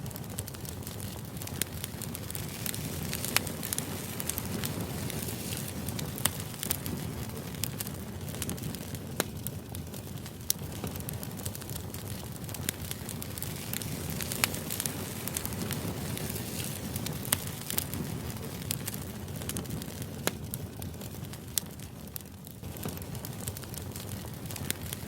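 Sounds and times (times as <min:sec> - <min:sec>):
sharp crackles and pops: 0:00.0 - 0:25.0.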